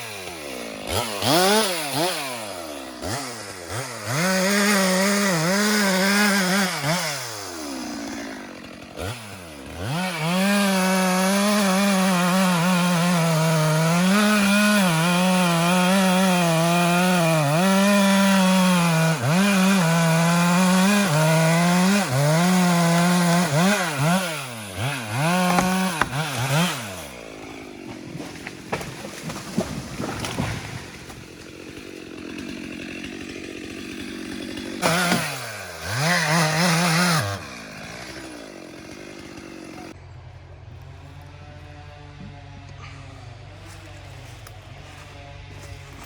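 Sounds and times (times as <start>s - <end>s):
chainsaw cutting wood: 0.0s - 46.0s.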